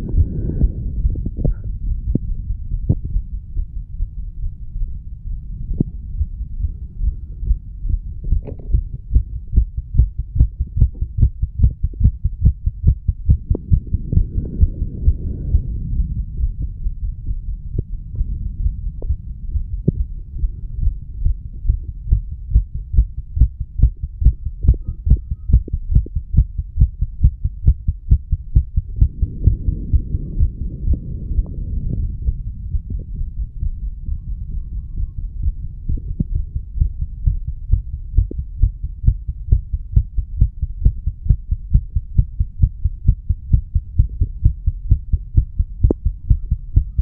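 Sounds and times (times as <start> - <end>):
heartbeat lub-dub thuds: 0.0 - 4.2, 5.7 - 47.0.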